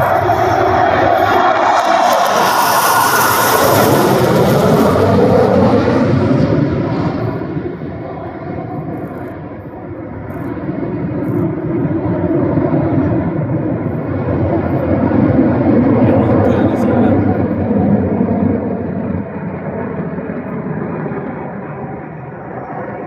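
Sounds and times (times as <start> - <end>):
jets passing overhead: 0.0 - 23.0.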